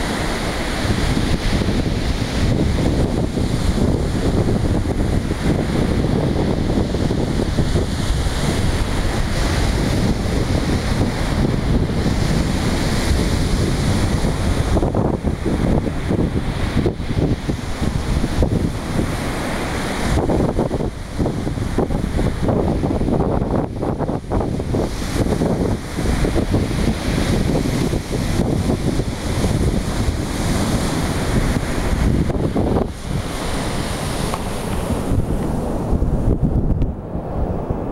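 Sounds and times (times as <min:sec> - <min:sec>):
sea surf: 0:00.0 - 0:37.9
wind buffeting the microphone: 0:00.0 - 0:37.9.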